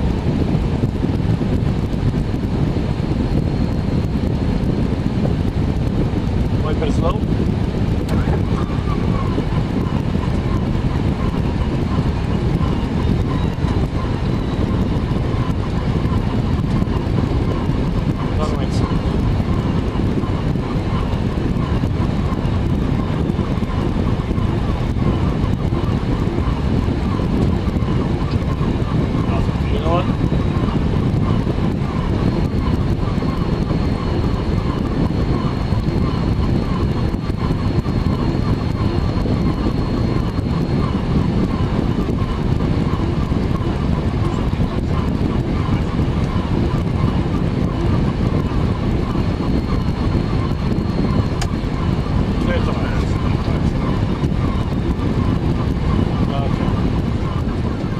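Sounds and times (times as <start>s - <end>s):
rush of airflow: 0.0s - 57.9s.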